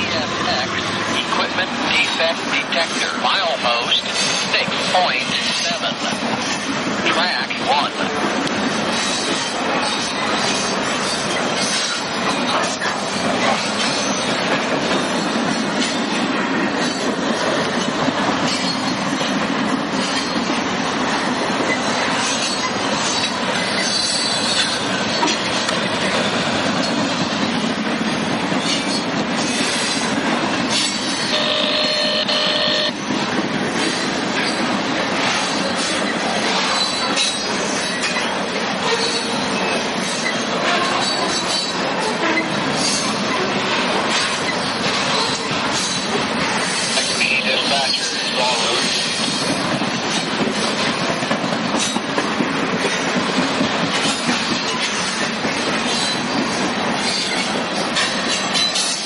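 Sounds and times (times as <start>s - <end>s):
rattling freight cars: 0.0s - 59.0s
steel train wheels on rail: 0.0s - 59.0s.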